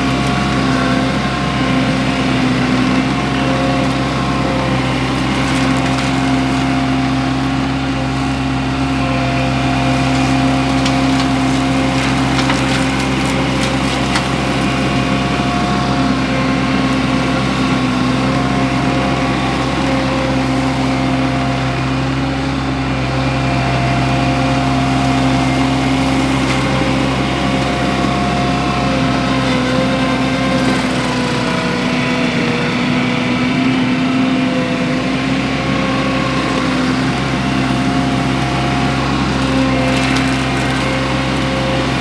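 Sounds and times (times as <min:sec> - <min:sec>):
skid steer engine running: 0:00.0 - 0:42.0.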